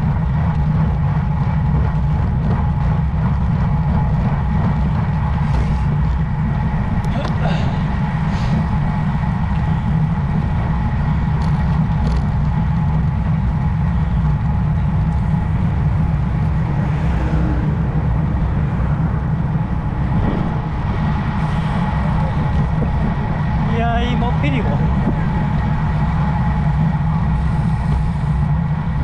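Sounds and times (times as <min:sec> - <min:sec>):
bicycle road rumble: 0:00.0 - 0:29.0
wind noise: 0:00.0 - 0:29.0.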